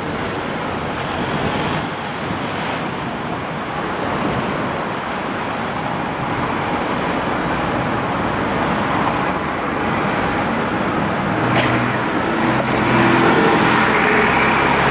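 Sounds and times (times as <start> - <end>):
bus engine passing: 0.0 - 14.9
passing cars road noise: 0.0 - 14.9.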